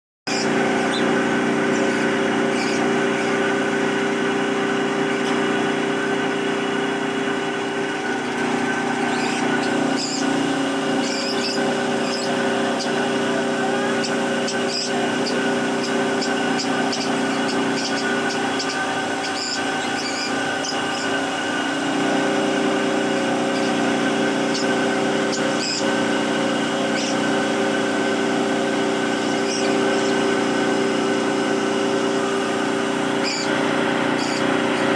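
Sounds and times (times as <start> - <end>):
steady motor hum: 0.3 - 34.9.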